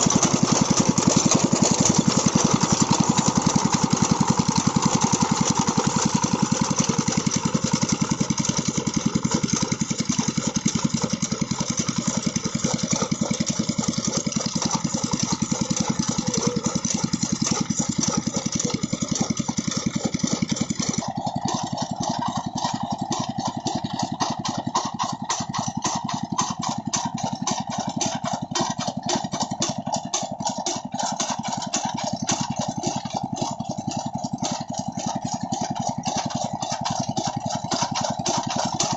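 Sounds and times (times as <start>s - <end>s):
stationary diesel engine running: 0.0s - 38.9s.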